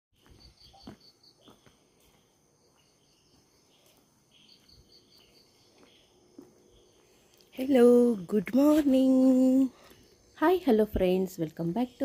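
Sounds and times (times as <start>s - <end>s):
crickets chirping: 0.2s - 12.0s
high insect drone: 0.2s - 12.0s.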